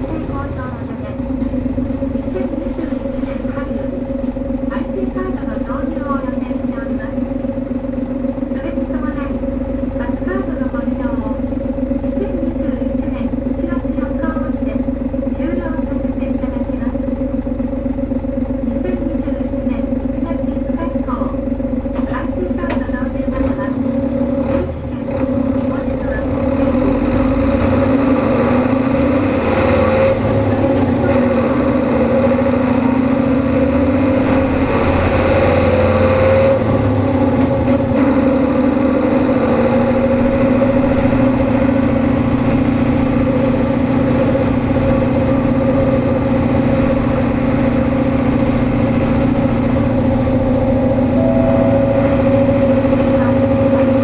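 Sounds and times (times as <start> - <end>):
bus engine whine: 0.0 - 54.0.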